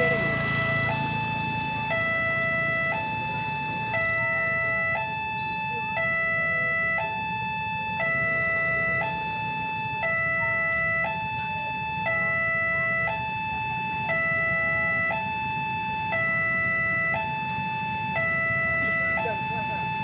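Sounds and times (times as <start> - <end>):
two-tone level crossing alarm: 0.0 - 20.0.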